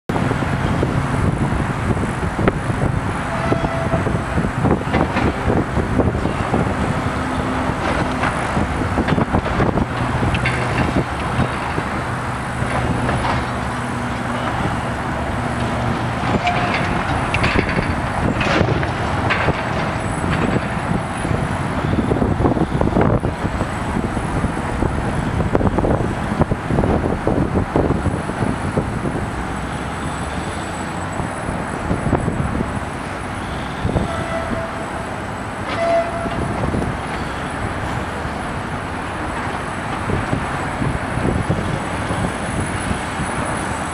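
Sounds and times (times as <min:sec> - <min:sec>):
diesel engine running: 0:00.1 - 0:43.9.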